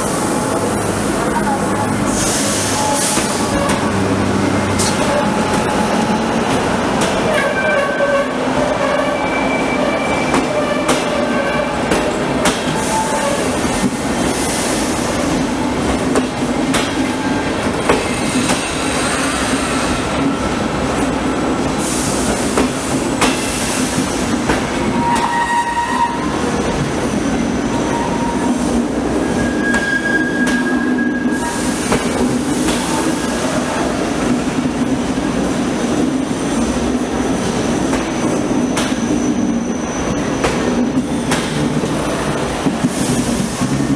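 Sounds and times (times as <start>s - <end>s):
wheels squealing on rails: 1.3s - 15.4s, 17.0s - 20.8s, 21.8s - 34.0s, 37.4s - 43.9s
train wheels clacking on rails: 1.8s - 9.1s, 9.7s - 27.5s, 28.1s - 43.9s.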